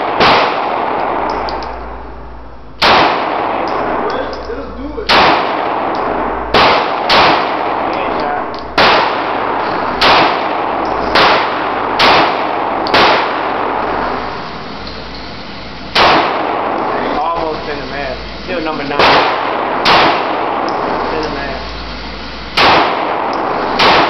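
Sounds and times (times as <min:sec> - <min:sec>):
pistol shots with ringing echo: 0:00.0 - 0:02.0, 0:02.8 - 0:17.4, 0:18.6 - 0:21.6, 0:22.5 - 0:24.0.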